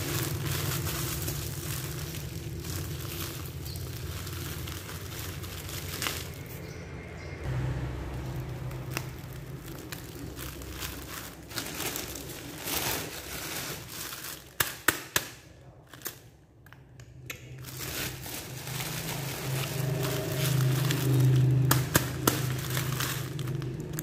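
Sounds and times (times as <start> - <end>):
plastic packaging crinkling: 0.0 - 6.8, 7.8 - 15.2, 15.8 - 16.3, 17.5 - 24.0.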